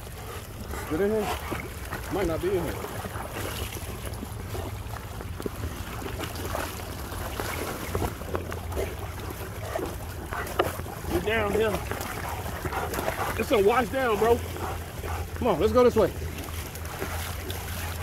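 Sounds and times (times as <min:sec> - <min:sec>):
creek water rushing: 0:00.0 - 0:18.0
dogs splashing in water: 0:00.0 - 0:18.0.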